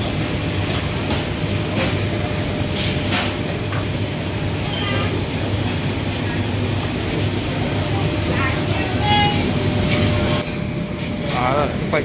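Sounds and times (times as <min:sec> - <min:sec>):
room and crowd rumble: 0:00.0 - 0:12.0.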